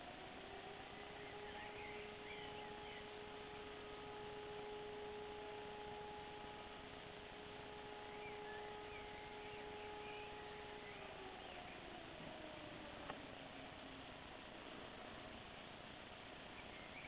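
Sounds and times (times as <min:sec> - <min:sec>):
birds chirping: 0:00.0 - 0:14.5, 0:16.1 - 0:17.0
distant sirens steady tone: 0:00.0 - 0:17.0.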